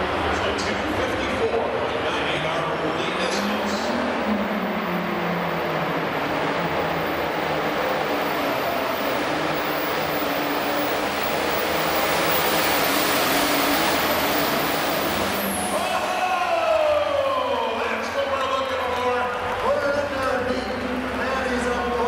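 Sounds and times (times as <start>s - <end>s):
tractor diesel engine at full power: 0.0s - 22.0s.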